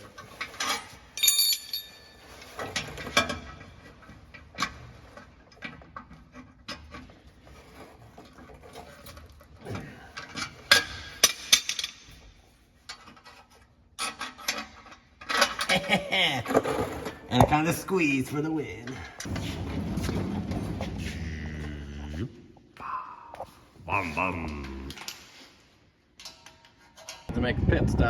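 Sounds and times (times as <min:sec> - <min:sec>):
metal exhaust parts scraping and knocking: 0:00.0 - 0:21.4, 0:26.2 - 0:27.3.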